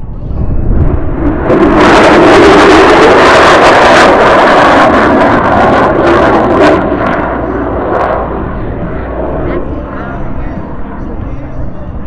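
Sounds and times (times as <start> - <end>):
loud jet noise: 0.0 - 12.0.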